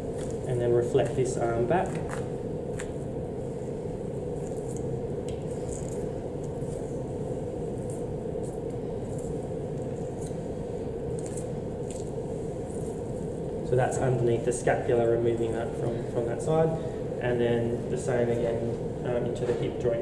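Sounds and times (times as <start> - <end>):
room hum: 0.0 - 20.0.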